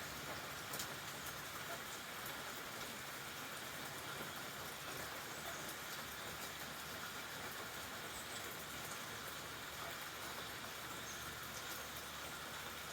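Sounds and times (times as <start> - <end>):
faint raindrop ticks: 0.0 - 12.9
steady rain patter: 0.0 - 12.9.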